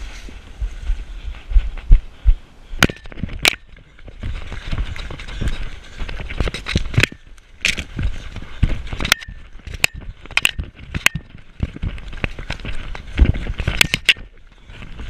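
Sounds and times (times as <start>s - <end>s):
camera rumble and rustle: 0.0s - 15.0s.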